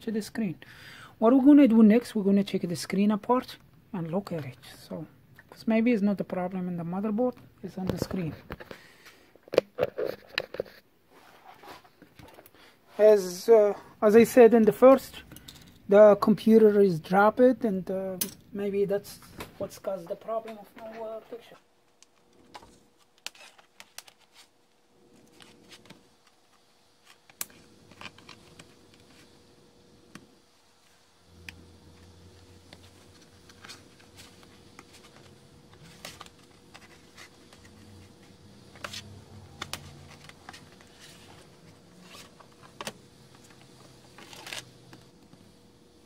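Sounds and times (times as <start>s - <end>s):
faint electrical hum: 0.0s - 46.0s.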